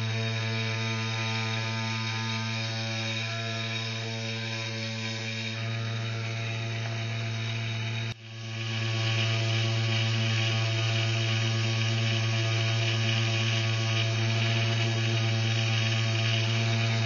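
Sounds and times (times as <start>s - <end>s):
lathe motor humming: 0.0s - 17.0s.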